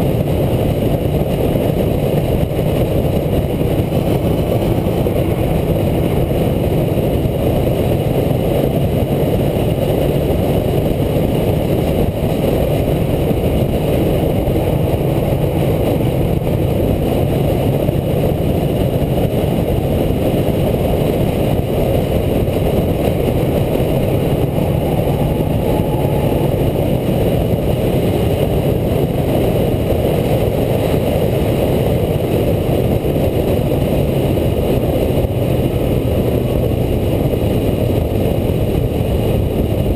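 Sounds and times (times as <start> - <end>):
truck engine running hard: 0.0 - 39.9
wind and road noise: 0.0 - 39.9.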